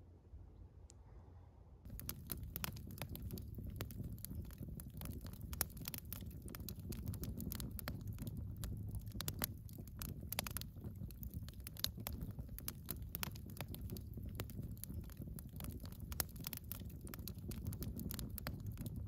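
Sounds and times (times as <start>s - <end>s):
low rumble of flames: 1.8s - 19.0s
campfire crackling: 1.9s - 19.0s
sharp pops of fire: 1.9s - 19.0s.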